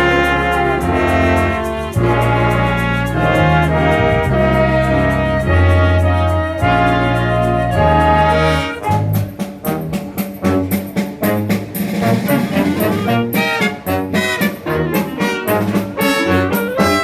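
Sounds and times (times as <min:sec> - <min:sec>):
brass playing rhythmic notes: 0:00.0 - 0:17.0
concert band playing: 0:00.0 - 0:17.0
percussion strokes: 0:00.0 - 0:17.0.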